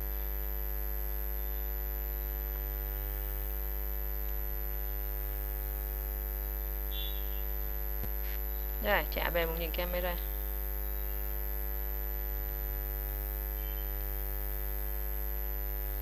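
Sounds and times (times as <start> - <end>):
electrical mains hum: 0.0 - 16.0
faint high-pitched whine: 2.1 - 15.2.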